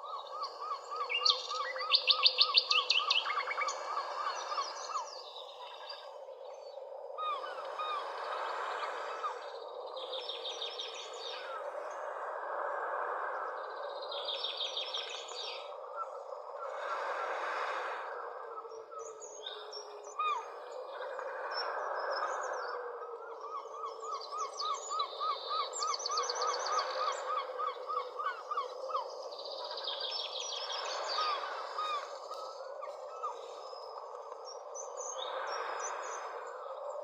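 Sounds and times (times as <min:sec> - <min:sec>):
wild birds calling and singing: 0:00.0 - 0:12.3, 0:13.0 - 0:37.0.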